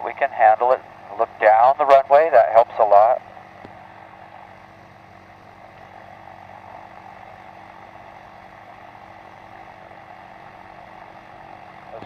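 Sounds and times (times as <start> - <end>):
muffled ultralight aircraft engine: 0.0 - 12.0.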